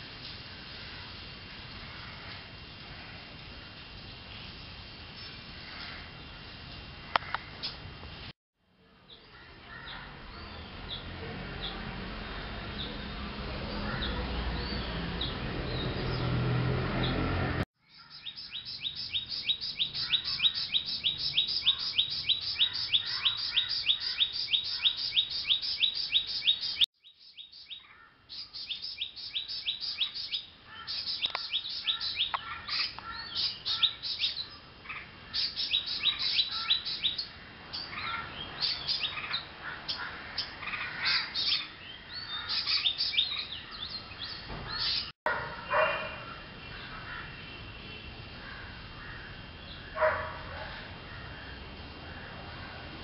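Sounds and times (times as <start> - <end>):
birds chirping: 9.0 - 53.0.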